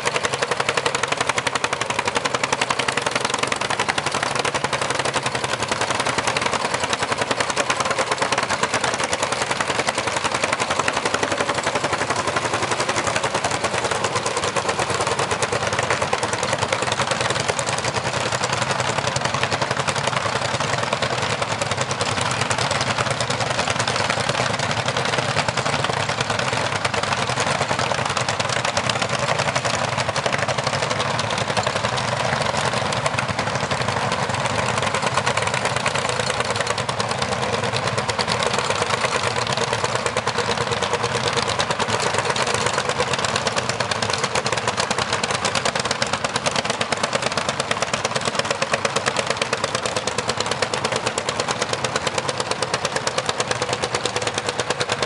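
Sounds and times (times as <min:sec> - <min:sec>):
tractor engines popping chug: 0:00.0 - 0:55.0.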